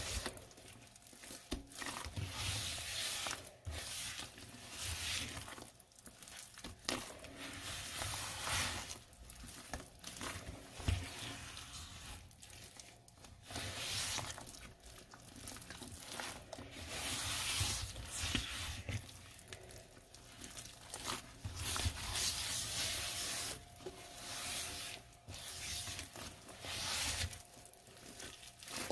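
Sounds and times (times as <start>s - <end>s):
sponge scrubbing a steel sink: 0.0s - 0.6s, 1.2s - 5.7s, 6.8s - 19.7s, 20.8s - 27.4s, 28.0s - 28.9s.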